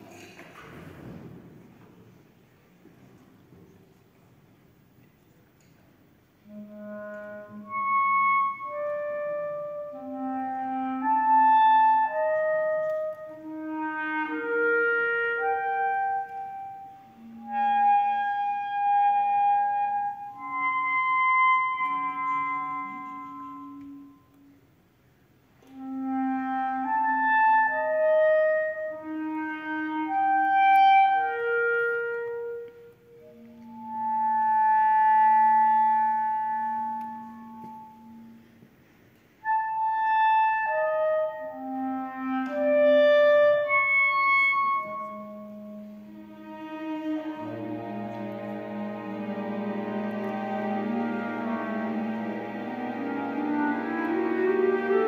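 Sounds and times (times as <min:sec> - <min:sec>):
clarinet playing slow melody: 0:06.4 - 0:24.7, 0:25.6 - 0:38.6, 0:39.4 - 0:55.0.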